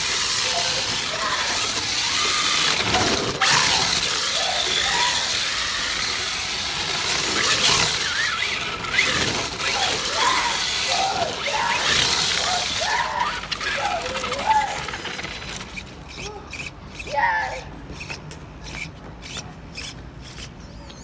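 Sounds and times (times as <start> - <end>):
tyres squeaking: 0.0 - 21.0.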